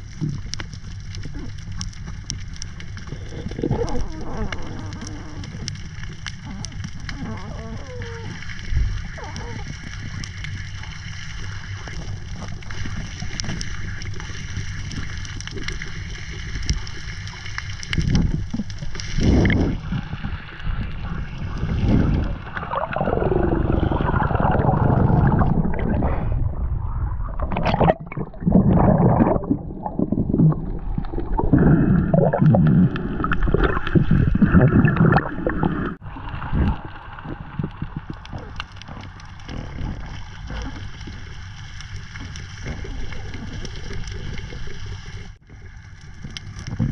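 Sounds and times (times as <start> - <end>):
seawater gurgling and sloshing: 0.0 - 46.9.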